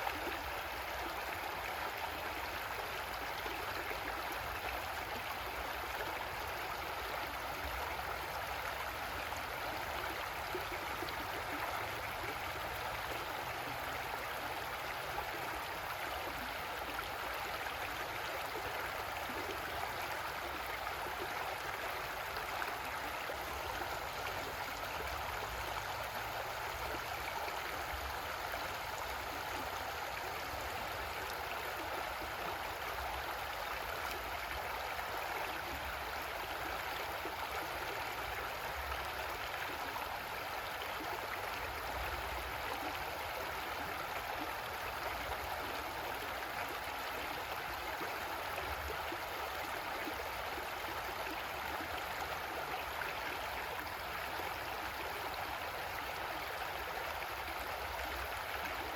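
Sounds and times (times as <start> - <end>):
creek water flowing over rocks: 0.0 - 58.9.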